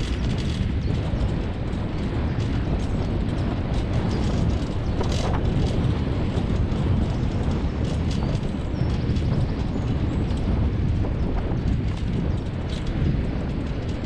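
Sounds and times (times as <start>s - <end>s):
faint ticks and rattles: 0.0s - 14.0s
wheels rumbling on dirt trail: 0.0s - 14.0s.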